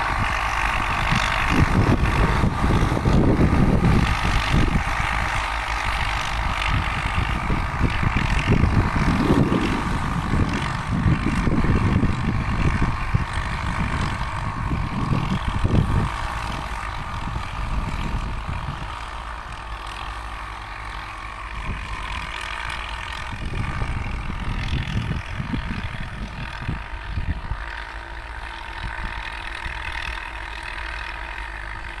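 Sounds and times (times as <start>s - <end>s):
low rumbling: 0.0s - 32.0s
tractor diesel engine running: 0.0s - 32.0s.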